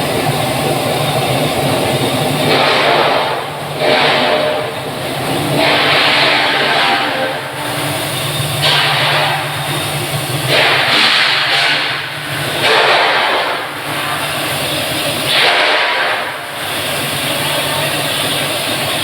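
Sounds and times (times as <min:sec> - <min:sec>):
loud hissing: 0:00.0 - 0:19.0
machinery low hum: 0:00.0 - 0:19.0.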